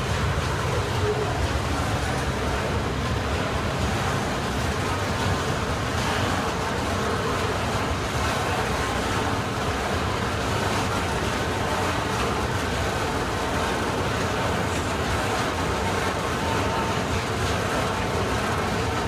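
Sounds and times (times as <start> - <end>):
train wheels running on rails: 0.0 - 19.0.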